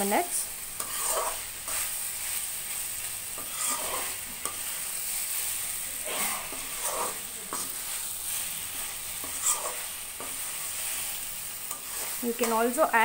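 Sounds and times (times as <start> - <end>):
food sizzling in sauce: 0.0 - 13.0
spatula scraping pan: 0.8 - 12.8.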